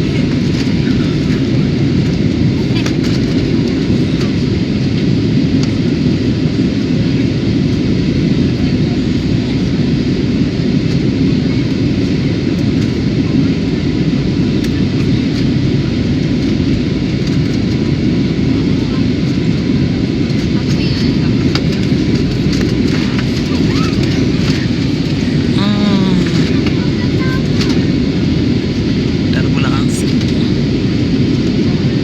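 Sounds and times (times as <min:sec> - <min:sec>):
aircraft cabin engine rumble: 0:00.0 - 0:32.0.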